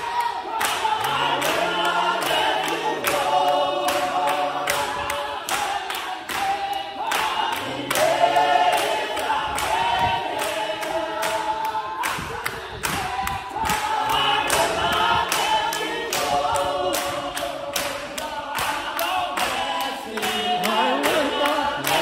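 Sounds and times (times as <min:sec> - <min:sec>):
congregation singing: 0:00.0 - 0:22.0
hand claps: 0:00.0 - 0:22.0.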